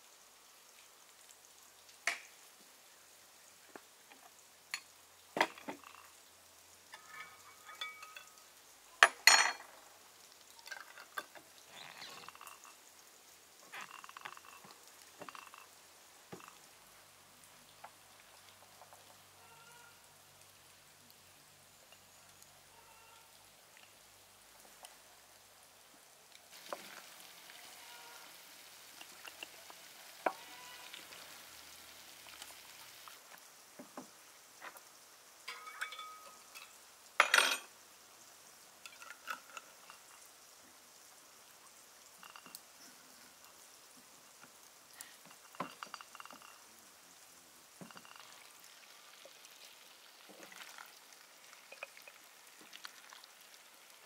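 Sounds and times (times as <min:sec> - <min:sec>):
soft hiss: 0:00.0 - 0:54.0.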